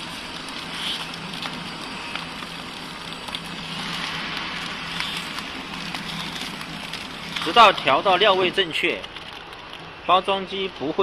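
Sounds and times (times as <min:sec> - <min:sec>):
packing machine motor hum: 0:00.0 - 0:09.8.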